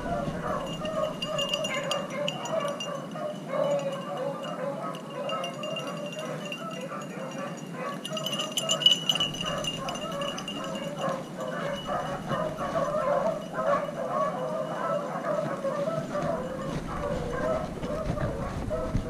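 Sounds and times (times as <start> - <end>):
metallic jingling: 0.0 - 15.1, 16.2 - 17.5
dogs baying: 0.0 - 19.0.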